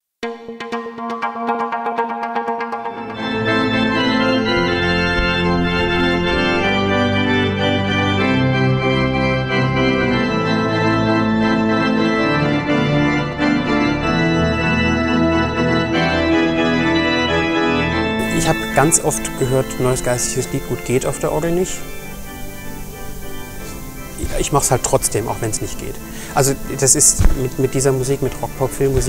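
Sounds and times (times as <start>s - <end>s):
pipe organ chords: 0.2s - 29.0s.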